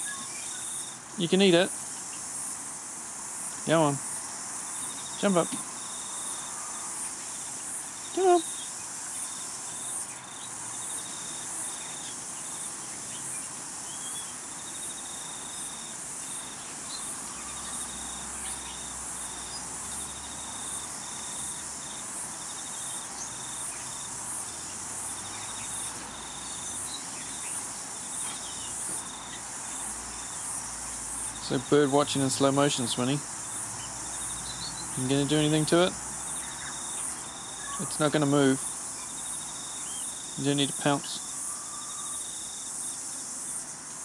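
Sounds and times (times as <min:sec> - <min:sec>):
insect trilling buzz: 0:00.0 - 0:44.0
insects chirping: 0:00.0 - 0:44.0.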